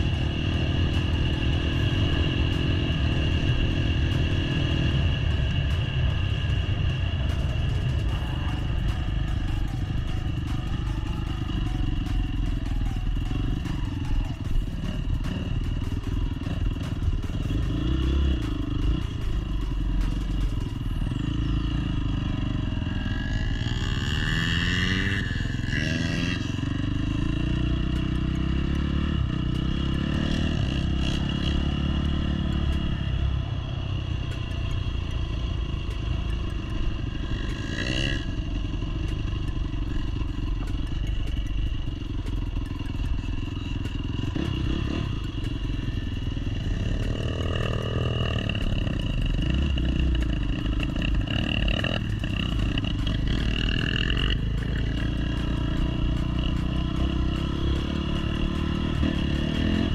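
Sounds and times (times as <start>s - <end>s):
dirt bike engine revving: 0.0s - 33.2s, 34.3s - 59.9s.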